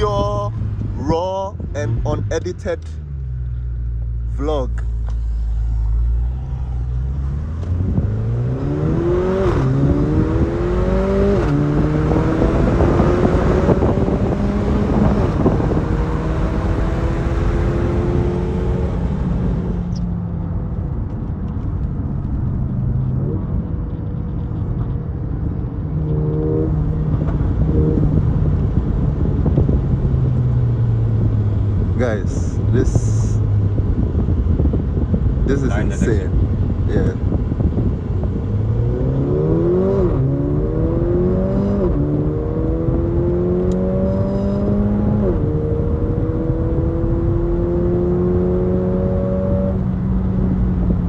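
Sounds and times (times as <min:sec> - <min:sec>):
car engine accelerating hard: 0:05.0 - 0:51.0.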